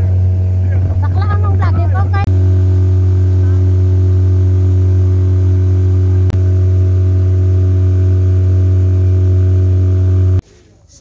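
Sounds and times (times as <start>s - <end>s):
motorboat engine droning: 0.0s - 10.4s.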